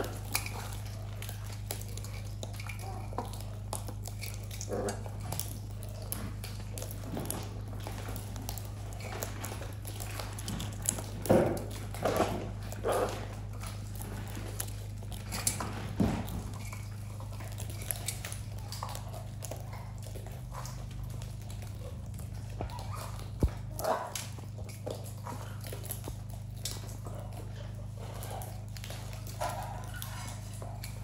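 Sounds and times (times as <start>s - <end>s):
beaks clicking and crunching seed: 0.0s - 31.0s
steady low hum: 0.0s - 31.0s.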